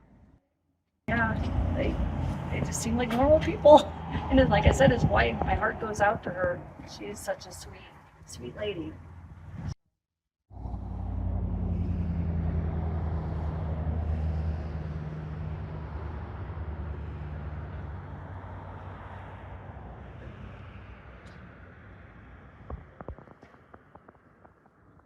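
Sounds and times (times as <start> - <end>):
road noise: 1.1 - 9.8, 10.5 - 25.0
vehicle engine humming: 1.1 - 9.8, 10.5 - 24.2.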